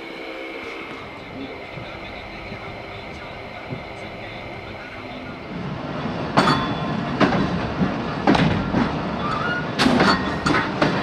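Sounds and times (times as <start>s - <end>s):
train coach rumble: 0.0s - 11.0s
wheels clacking over rail joints: 1.4s - 11.0s.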